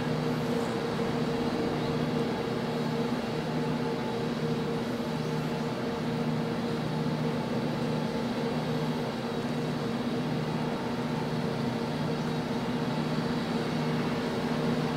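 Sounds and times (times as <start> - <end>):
low ship machinery hum: 0.0 - 14.9.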